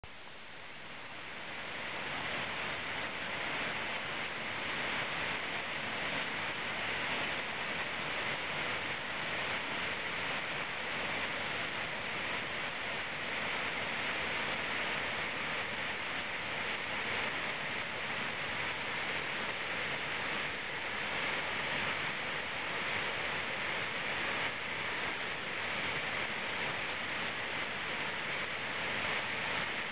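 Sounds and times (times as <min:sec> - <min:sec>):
waterfall roaring: 0:00.2 - 0:29.9.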